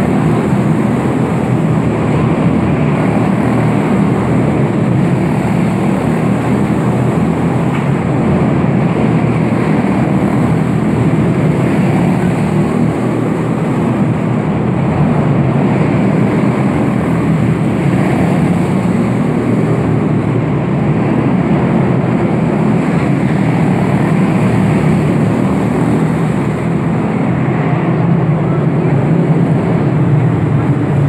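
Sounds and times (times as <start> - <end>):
small race car engines droning: 0.0 - 31.0.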